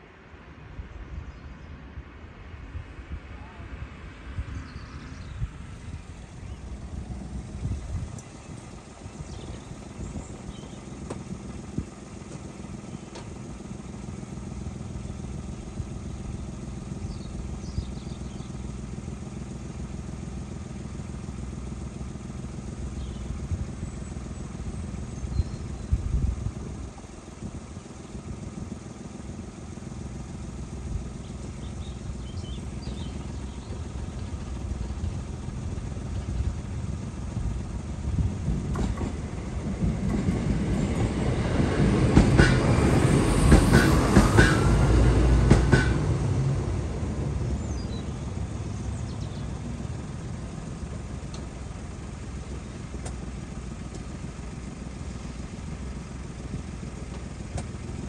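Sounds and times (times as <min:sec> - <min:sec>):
diesel train engine hum: 0:00.0 - 0:58.0.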